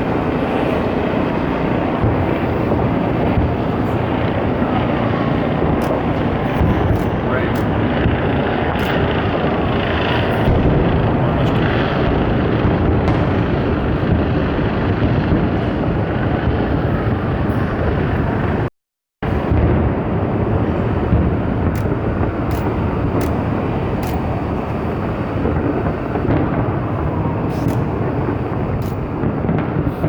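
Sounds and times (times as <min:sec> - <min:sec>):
fireworks rumbling: 0:00.0 - 0:30.0.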